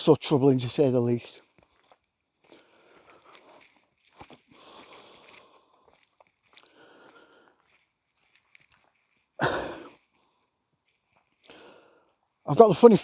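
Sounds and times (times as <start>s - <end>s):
footsteps crunching and rustling: 0.0s - 13.0s.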